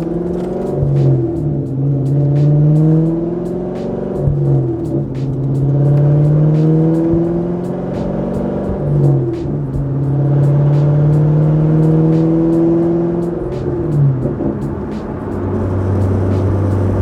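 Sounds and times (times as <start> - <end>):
droning car exhaust while driving: 0.0 - 17.0.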